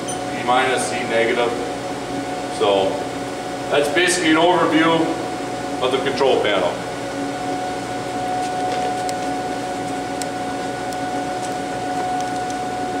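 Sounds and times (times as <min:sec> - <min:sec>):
machine humming with whine: 0:00.0 - 0:13.0.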